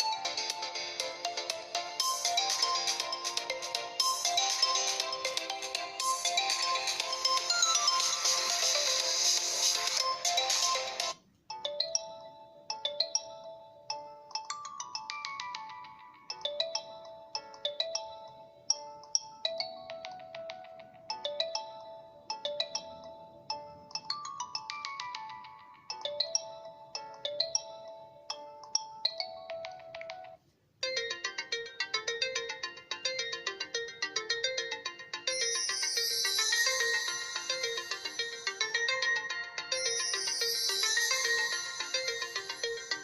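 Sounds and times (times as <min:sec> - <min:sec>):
bright ringtone melody: 0:00.0 - 0:43.0.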